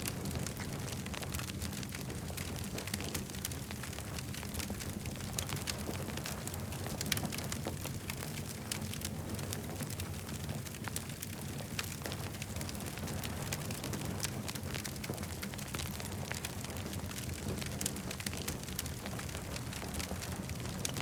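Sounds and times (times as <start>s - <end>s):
campfire crackling and popping: 0.0s - 21.0s
fire burning rumble: 0.0s - 21.0s.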